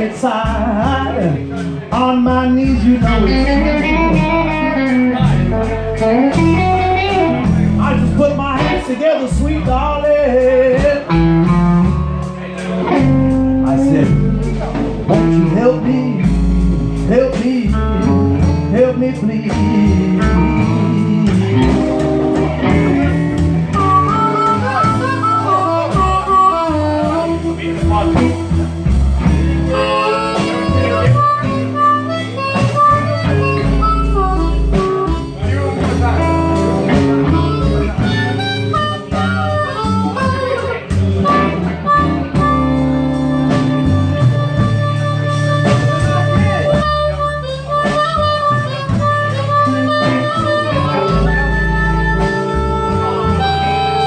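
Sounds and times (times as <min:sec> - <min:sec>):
blues band playing: 0:00.0 - 0:54.0
harmonica bending notes: 0:00.0 - 0:54.0.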